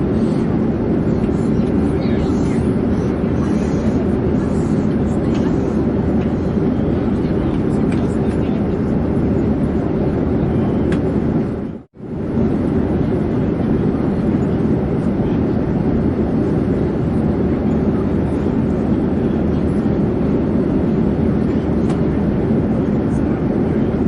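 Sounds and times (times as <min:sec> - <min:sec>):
airplane engine rumble: 0:00.0 - 0:24.0.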